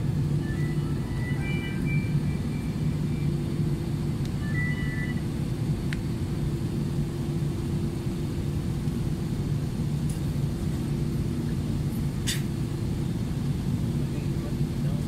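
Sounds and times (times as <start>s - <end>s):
aircraft engines rumbling: 0.0s - 15.0s.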